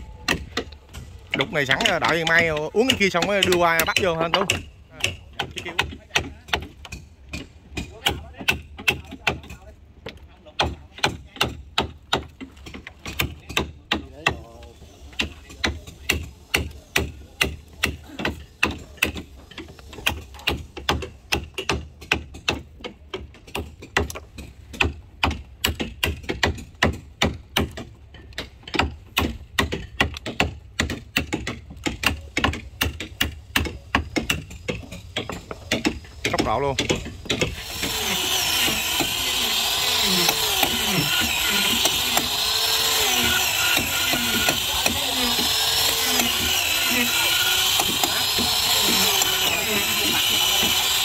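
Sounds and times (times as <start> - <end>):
hammering on wood: 0.2 - 14.5, 15.1 - 51.0.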